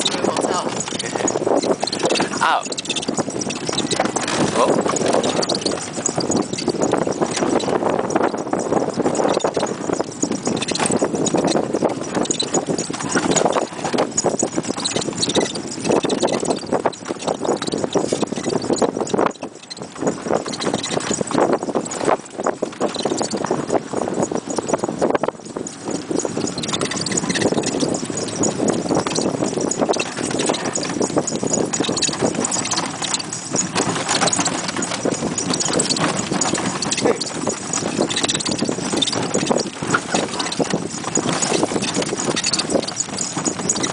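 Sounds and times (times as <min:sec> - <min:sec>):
cart rattling: 0:00.0 - 0:43.9
harness jingling: 0:00.0 - 0:43.9
hooves clip-clopping on dirt: 0:00.0 - 0:43.9.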